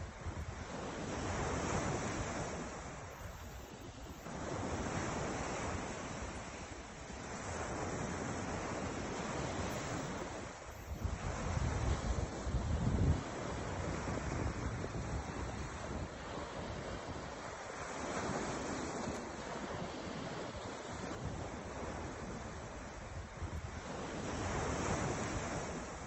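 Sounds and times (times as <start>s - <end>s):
ocean surf washing in: 0.0s - 26.0s
wind buffeting microphone: 0.0s - 26.0s.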